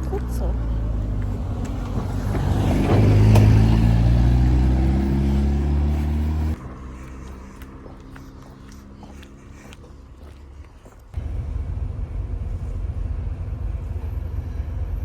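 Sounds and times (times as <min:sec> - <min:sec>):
vehicle engine under load: 0:00.0 - 0:10.2, 0:11.0 - 0:15.0
quiet engine hum: 0:00.0 - 0:15.0.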